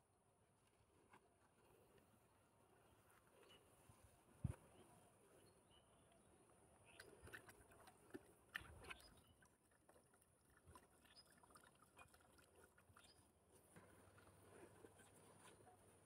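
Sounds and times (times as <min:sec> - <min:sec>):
faint water sounds: 0:00.0 - 0:16.0.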